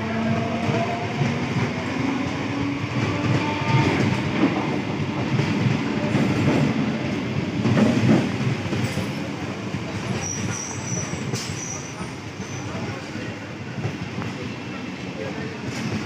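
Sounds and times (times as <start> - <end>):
train coaches rumbling: 0.0 - 16.0.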